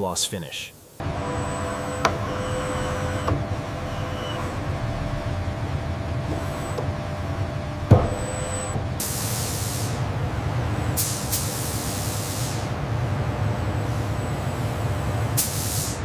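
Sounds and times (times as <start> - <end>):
low machinery hum: 1.0 - 15.4.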